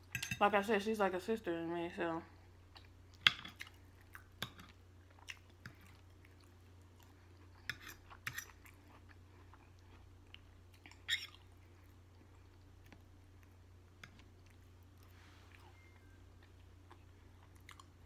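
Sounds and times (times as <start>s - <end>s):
faint low hum: 0.0s - 18.0s
chewing and mouth smacking: 2.7s - 15.8s, 16.4s - 18.0s.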